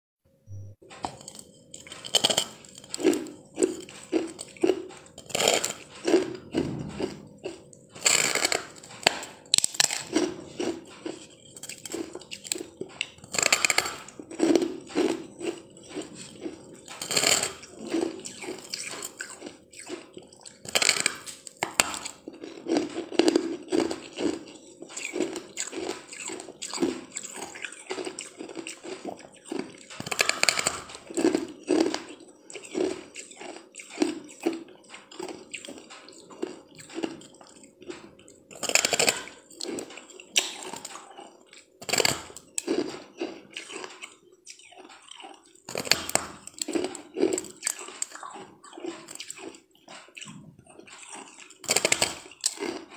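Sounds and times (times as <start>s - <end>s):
chewing crushed ice: 0.9s - 52.9s.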